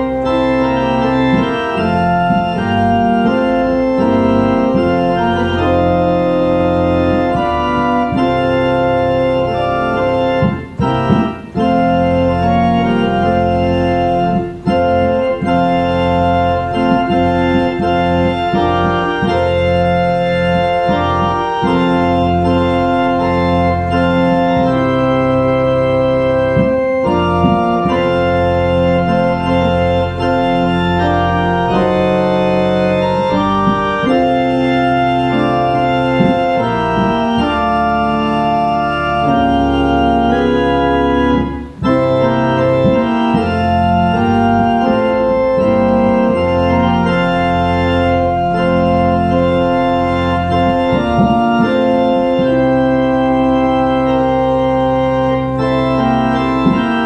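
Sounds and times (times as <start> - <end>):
organ playing slow chords: 0.0 - 57.0.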